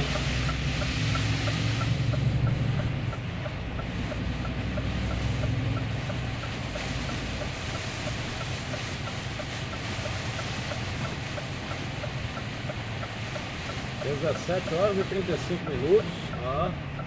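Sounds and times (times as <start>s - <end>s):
faint even ticking: 0.0s - 17.0s
heavy rain and tyre spray hiss: 0.0s - 17.0s
truck engine running: 0.0s - 17.0s.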